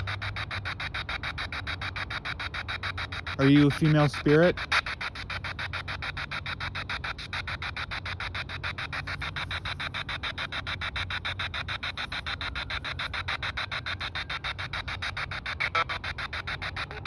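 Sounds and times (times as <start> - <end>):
low hum: 0.0 - 17.0
radio static bursts: 0.0 - 17.0.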